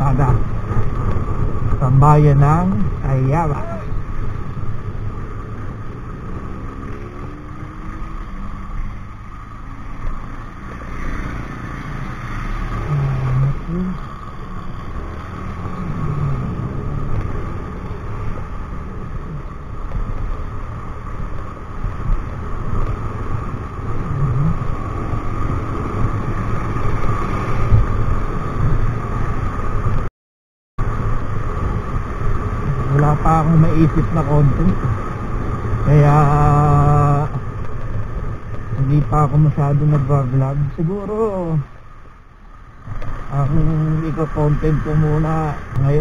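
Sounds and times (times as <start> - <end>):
wind and road noise: 0.0 - 30.1, 30.8 - 46.0.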